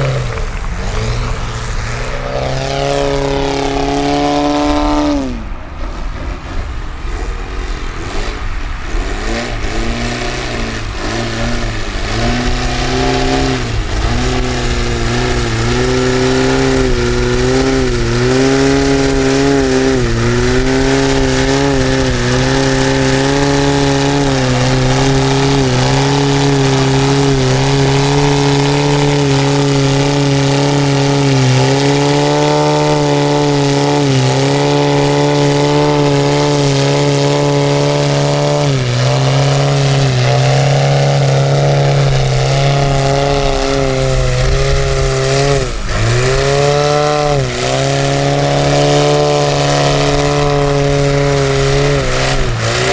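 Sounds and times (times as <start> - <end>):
model plane petrol engine: 0.0 - 52.9.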